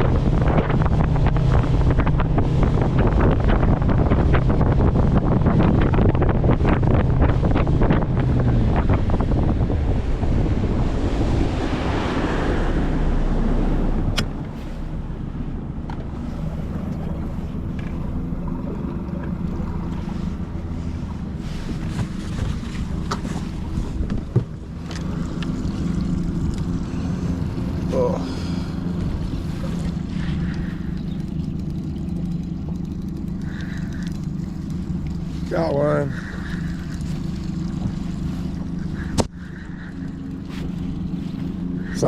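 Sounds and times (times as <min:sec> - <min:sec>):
motorboat engine running: 0:00.0 - 0:42.0
rushing water: 0:00.0 - 0:42.0
wind buffeting microphone: 0:00.0 - 0:42.0.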